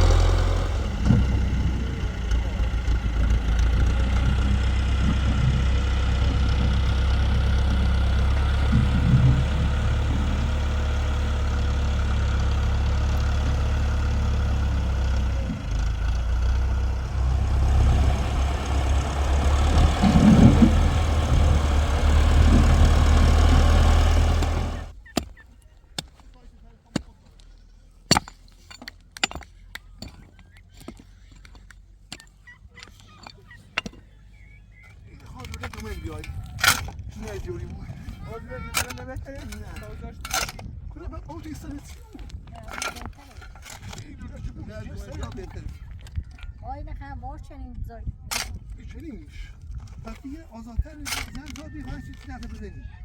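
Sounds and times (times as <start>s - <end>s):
tractor engine running: 0.0s - 52.8s.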